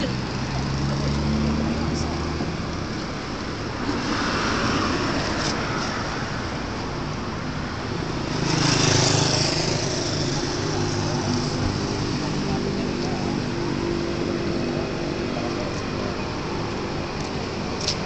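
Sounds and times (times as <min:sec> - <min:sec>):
road traffic engines: 0:00.0 - 0:18.0.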